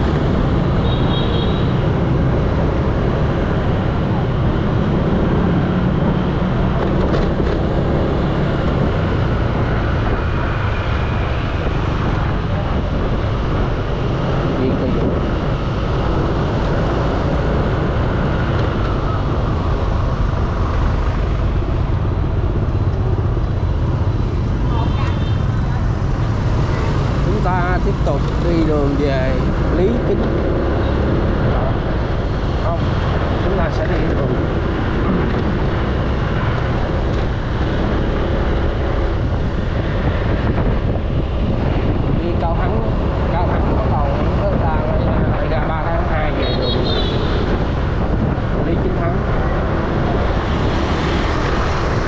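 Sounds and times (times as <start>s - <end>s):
motorbike traffic: 0.0s - 52.0s
wind noise: 0.0s - 52.0s.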